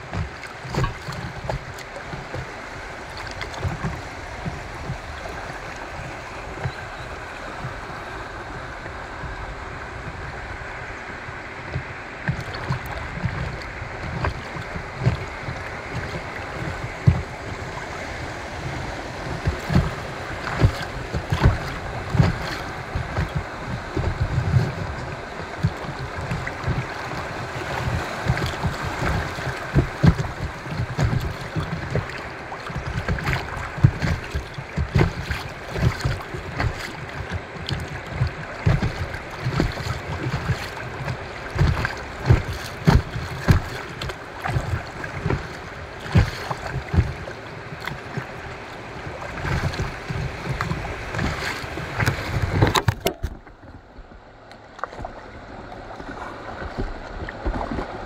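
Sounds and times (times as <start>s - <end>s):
wind on microphone: 0.0s - 54.2s
river current rushing and splashing: 0.0s - 58.0s.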